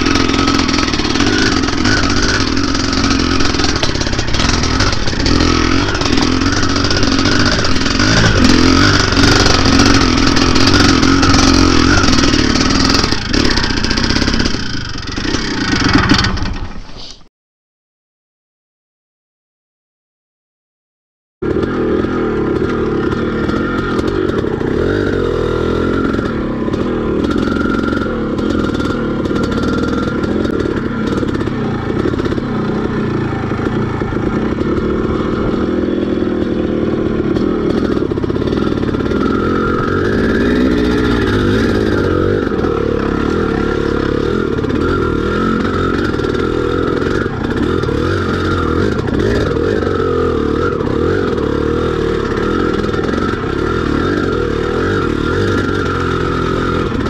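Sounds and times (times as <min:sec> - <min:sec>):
dirt bike engine revving: 0:00.0 - 0:16.8, 0:21.4 - 0:57.0.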